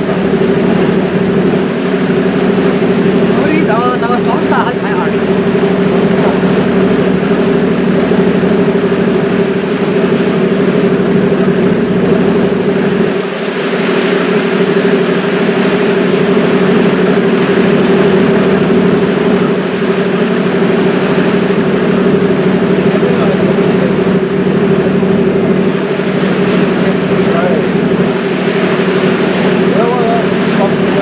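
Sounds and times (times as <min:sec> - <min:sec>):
ship engine humming: 0:00.0 - 0:31.0.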